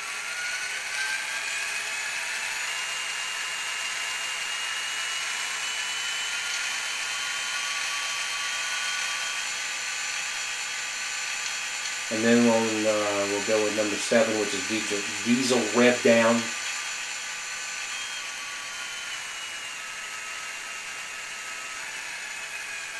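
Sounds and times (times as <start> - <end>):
model locomotive diesel engine sound: 0.0 - 22.9.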